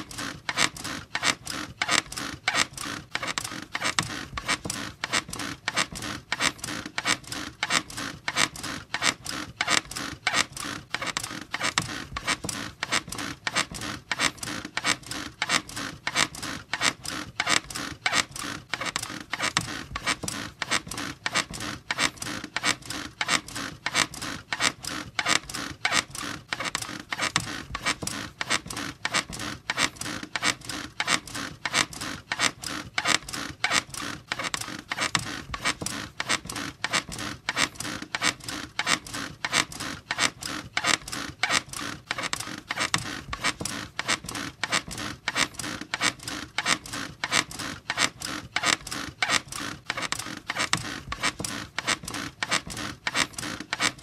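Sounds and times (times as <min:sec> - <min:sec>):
bed squeaking rhythmically: 0:00.0 - 0:54.0.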